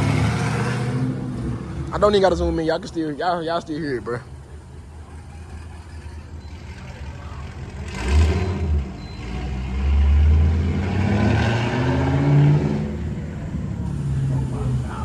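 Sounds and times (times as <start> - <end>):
car engine accelerating: 0.0 - 2.9, 5.2 - 15.0.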